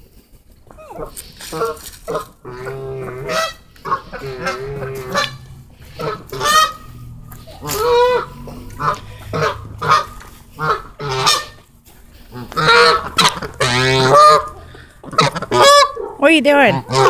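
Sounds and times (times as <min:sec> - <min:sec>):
geese honking: 0:00.5 - 0:17.0.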